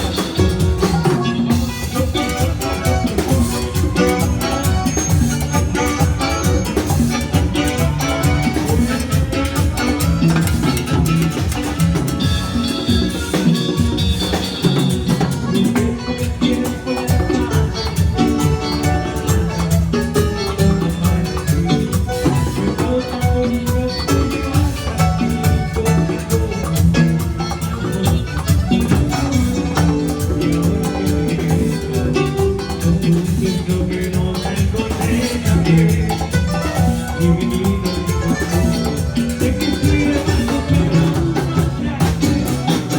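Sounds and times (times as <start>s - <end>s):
band playing latin dance music: 0.0s - 42.9s.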